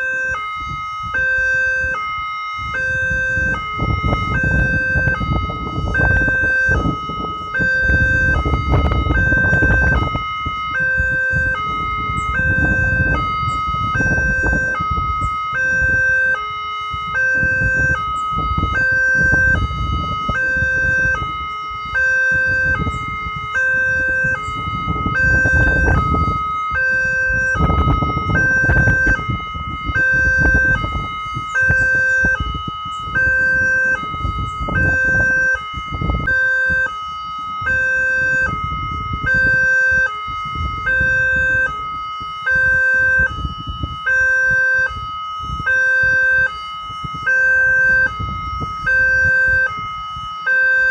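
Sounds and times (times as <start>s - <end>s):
two-tone crossing warning siren: 0.0s - 50.9s.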